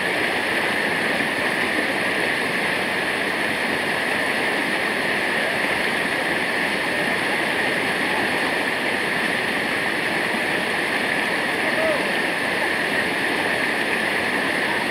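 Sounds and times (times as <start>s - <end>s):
rushing water: 0.0s - 14.9s.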